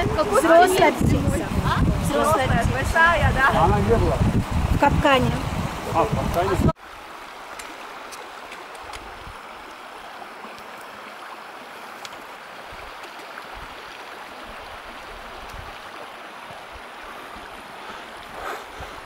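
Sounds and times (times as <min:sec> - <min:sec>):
flowing stream: 0:00.0 - 0:19.0.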